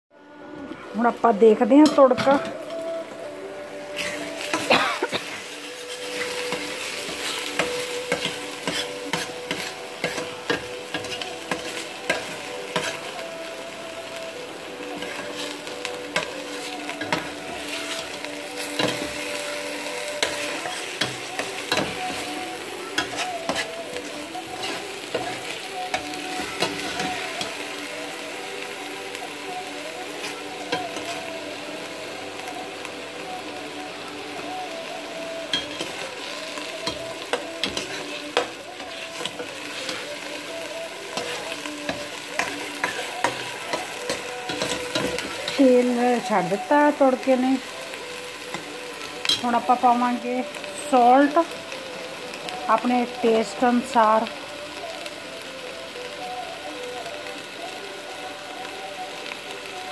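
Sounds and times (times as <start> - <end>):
onion sizzling in hot oil: 0.9 - 59.9.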